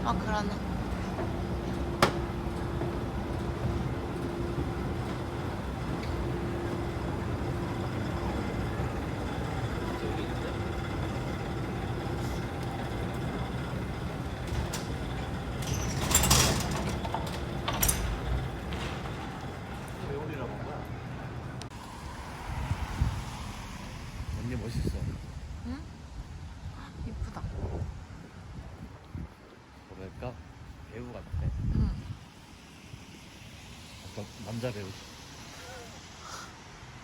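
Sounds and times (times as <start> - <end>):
vehicle rumble: 0.0 - 29.7.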